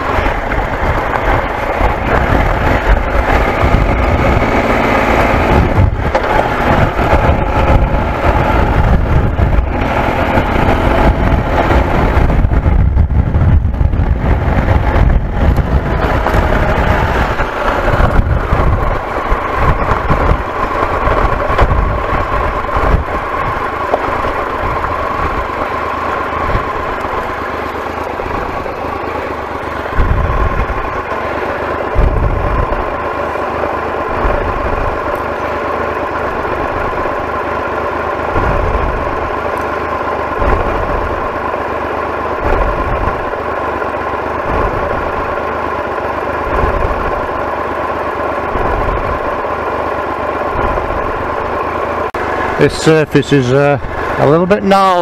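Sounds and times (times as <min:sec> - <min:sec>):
motorcycle engine revving: 0:00.0 - 0:52.8, 0:53.8 - 0:55.0.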